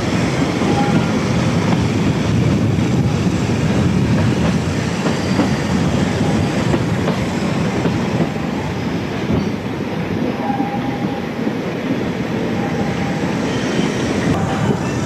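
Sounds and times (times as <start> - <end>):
train wheels rolling on track: 0.0 - 15.0.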